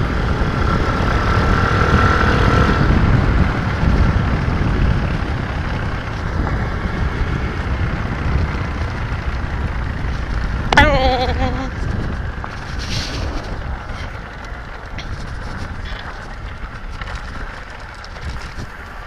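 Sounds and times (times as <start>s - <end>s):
motorbike engine running: 0.0s - 19.0s
wind rumble on microphone: 0.0s - 19.0s.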